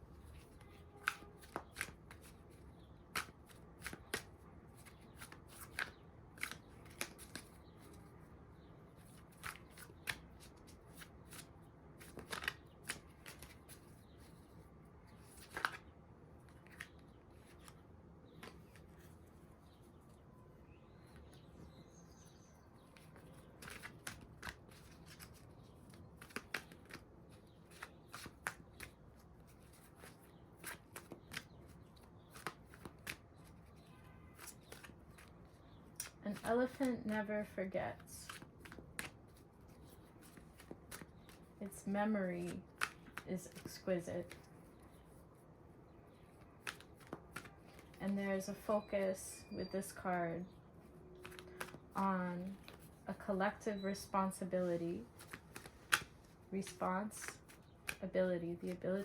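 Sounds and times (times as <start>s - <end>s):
cards being shuffled: 0.1s - 8.1s, 9.0s - 19.8s, 22.9s - 37.6s, 38.2s - 45.2s, 46.1s - 49.0s, 50.9s - 53.0s, 55.0s - 58.8s.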